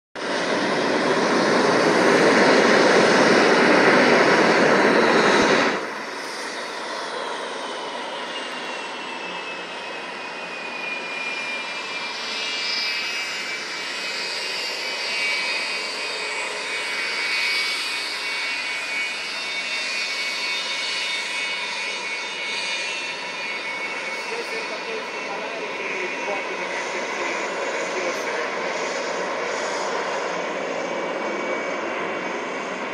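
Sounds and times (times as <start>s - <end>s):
jet engine whining: 0.2s - 32.9s.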